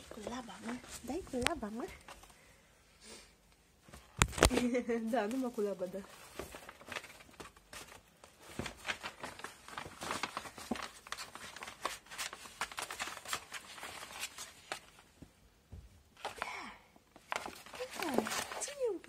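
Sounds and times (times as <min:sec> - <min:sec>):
paper crinkling and rustling: 0:00.0 - 0:02.4, 0:03.9 - 0:15.2, 0:16.2 - 0:16.5, 0:17.1 - 0:19.0.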